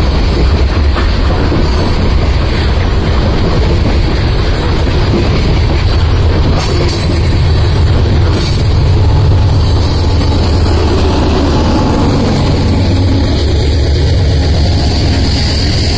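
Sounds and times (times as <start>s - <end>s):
diesel locomotive engine drone: 0.0s - 15.9s
steel wheels rumbling on rail: 0.0s - 15.9s.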